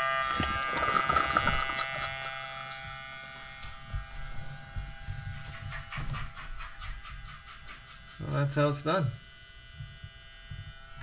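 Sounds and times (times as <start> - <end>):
electric pump buzzing whine: 0.0 - 11.0
pump sputtering water and air: 0.0 - 11.0.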